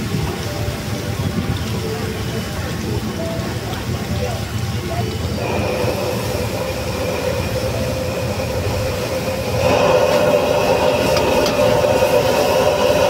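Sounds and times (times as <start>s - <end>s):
broth bubbling: 0.0s - 13.0s
gas burner roaring: 0.0s - 13.0s.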